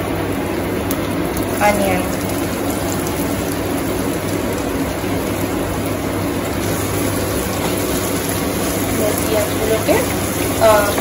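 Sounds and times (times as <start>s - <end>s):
onions sizzling in oil: 0.3s - 11.0s.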